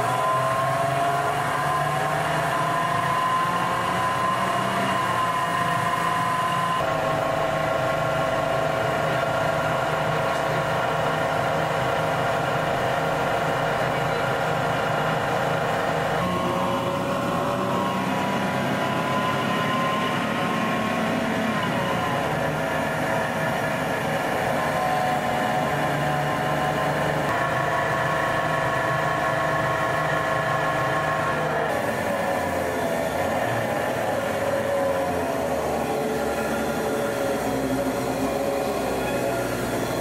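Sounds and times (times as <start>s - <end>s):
bus engine rumble: 0.0s - 40.0s
drivetrain whine: 0.0s - 40.0s.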